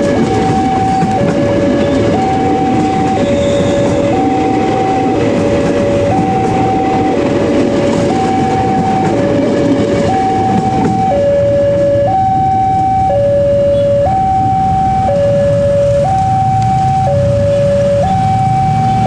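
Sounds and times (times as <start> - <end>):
passing train rumble: 0.0 - 19.0
two-tone level crossing alarm: 0.0 - 19.0.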